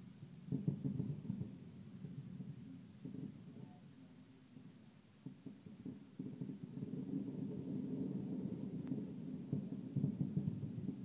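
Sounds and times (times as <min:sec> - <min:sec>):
distant fireworks booming: 0:00.0 - 0:11.0.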